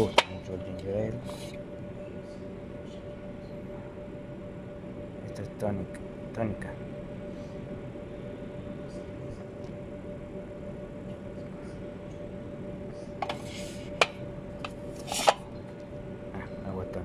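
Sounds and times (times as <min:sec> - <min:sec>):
faint steady tone: 0:00.0 - 0:17.0
room hum: 0:00.0 - 0:17.0.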